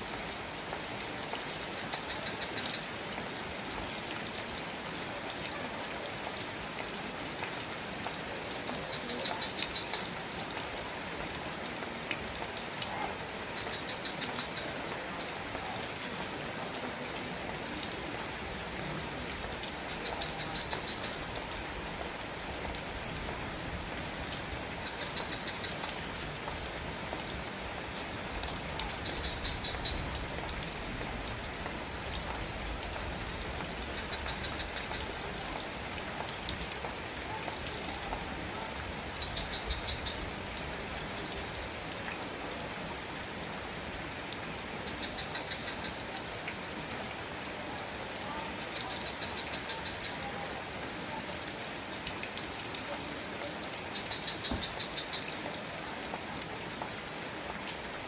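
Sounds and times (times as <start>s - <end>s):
raindrops ticking on a surface: 0.0s - 58.0s
steady rain falling: 0.0s - 58.0s.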